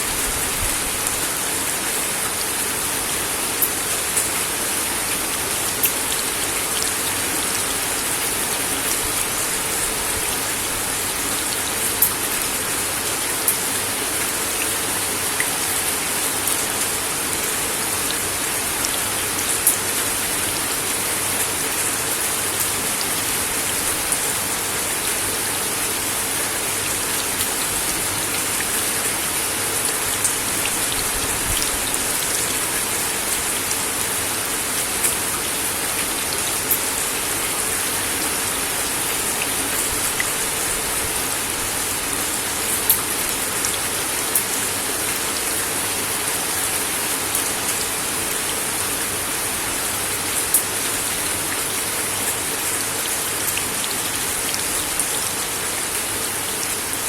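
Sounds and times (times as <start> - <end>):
rain on a wooden deck: 0.0 - 57.0.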